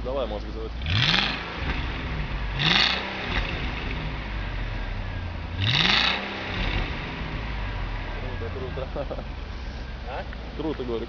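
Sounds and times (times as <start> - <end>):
car engine idling: 0.0 - 11.0
engine revving: 0.2 - 10.3.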